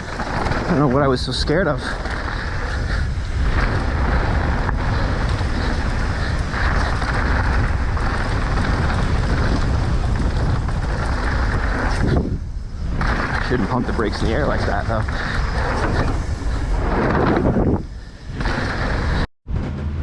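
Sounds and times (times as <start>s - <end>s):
bike tyres rolling over dirt: 0.0s - 19.3s
wind buffeting microphone: 0.0s - 19.3s.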